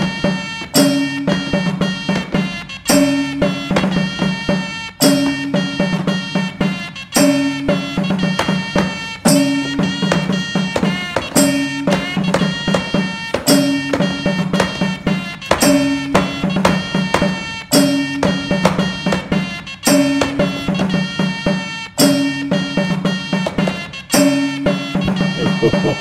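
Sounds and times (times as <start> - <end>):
folk instrumental music: 0.0 - 26.0.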